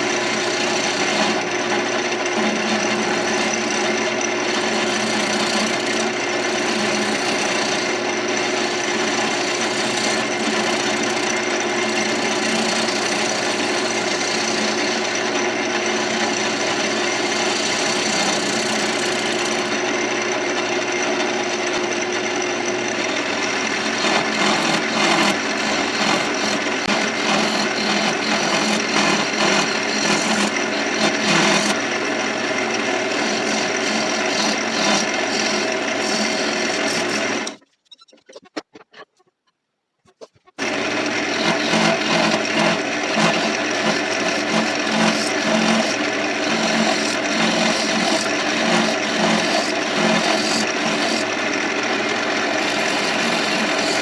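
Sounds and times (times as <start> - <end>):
wood lathe humming: 0.0 - 37.6, 40.6 - 54.0
tool scraping spinning wood: 0.0 - 38.9, 40.1 - 54.0.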